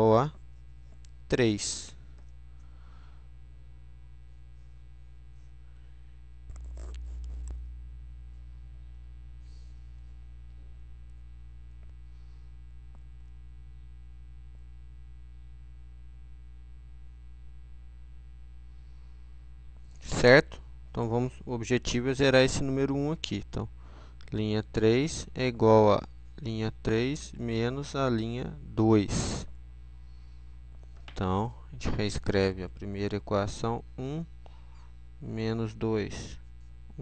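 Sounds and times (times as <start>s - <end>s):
electrical mains hum: 0.0s - 37.0s.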